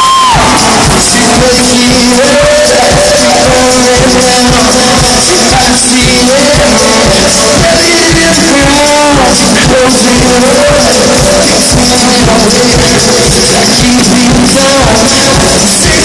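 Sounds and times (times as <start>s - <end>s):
live rock band playing: 0.0s - 16.0s
man singing long held notes: 0.0s - 16.0s.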